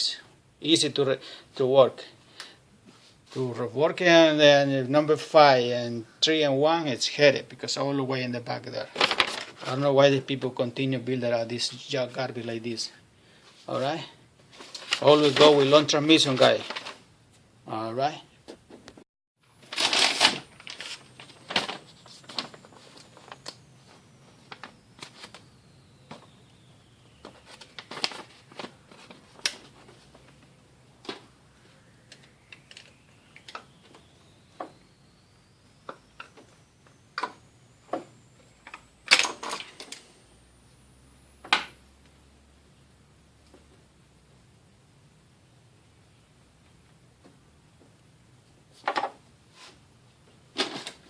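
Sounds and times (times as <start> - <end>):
faint high whine: 0.0 - 51.0.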